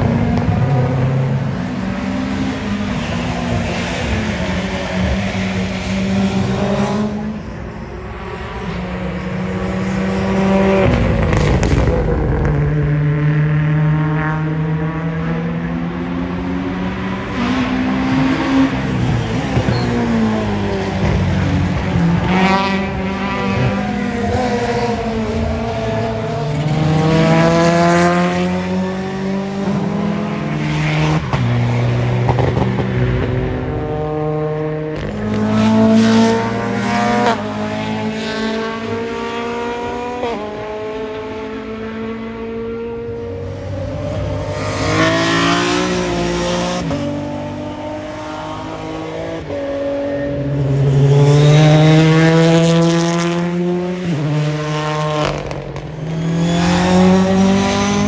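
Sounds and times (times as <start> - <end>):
rally car engines accelerating past: 0.0 - 58.0.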